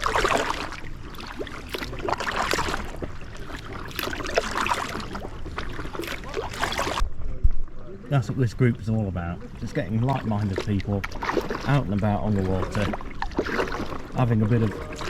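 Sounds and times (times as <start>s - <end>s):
paddle splashing in water: 0.0s - 7.1s, 9.4s - 15.0s.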